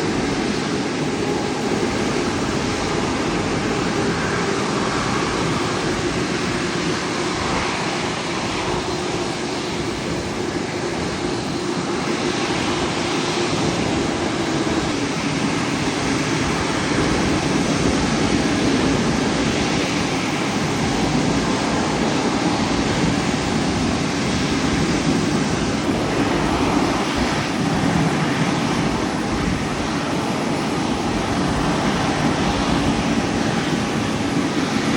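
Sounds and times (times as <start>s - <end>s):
jet engines rushing hum: 0.0s - 34.9s.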